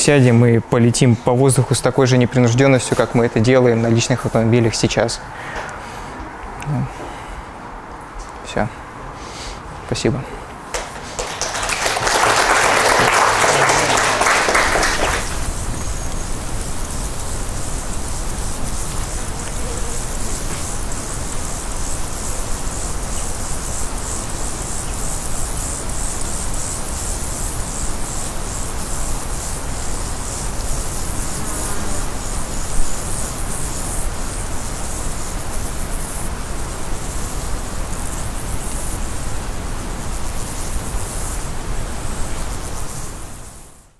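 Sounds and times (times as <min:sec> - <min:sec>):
steady hiss with crackling: 0:00.0 - 0:43.9.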